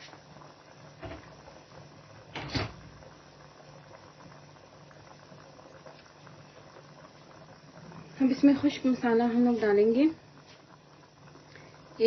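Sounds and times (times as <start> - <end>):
pot bubbling: 0.0 - 12.0.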